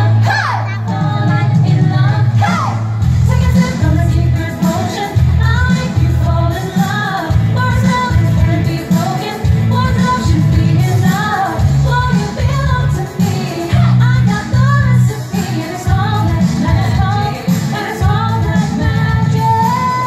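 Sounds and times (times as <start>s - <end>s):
pop song with heavy bass: 0.0s - 20.0s.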